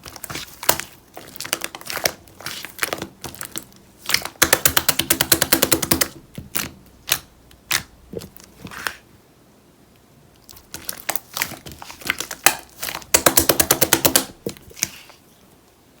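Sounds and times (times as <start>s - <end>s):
slime squished by hand: 0.0s - 9.0s, 10.4s - 15.1s.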